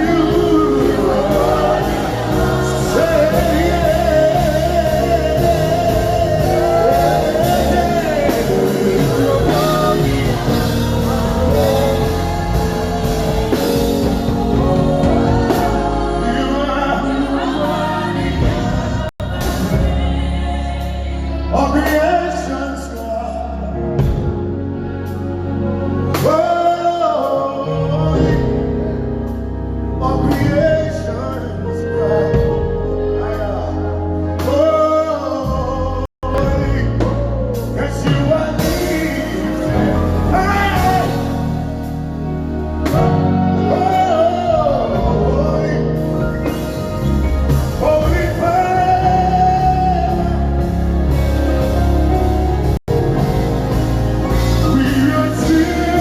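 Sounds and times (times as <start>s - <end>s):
gospel singing with band: 0.0s - 56.0s.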